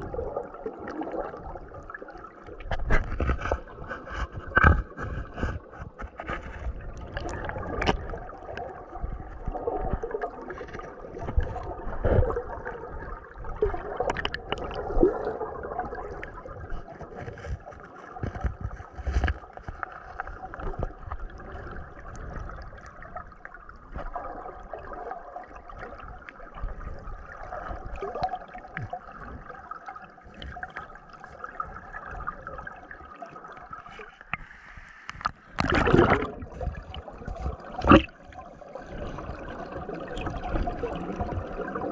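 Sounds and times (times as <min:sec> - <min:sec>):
muffled underwater stream gurgling: 0:00.0 - 0:41.9.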